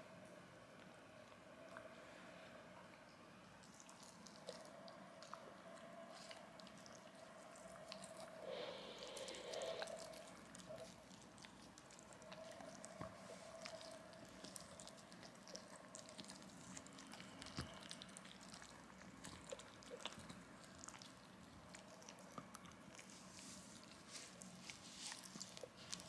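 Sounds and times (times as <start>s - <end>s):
dog chewing and licking: 3.6s - 26.0s.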